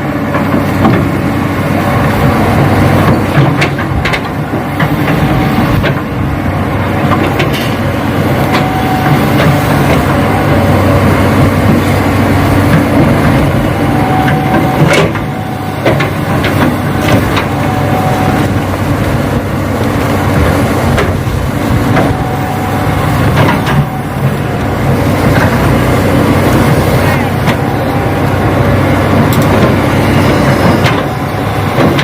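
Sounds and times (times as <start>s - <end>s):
model excavator humming: 0.0s - 32.0s.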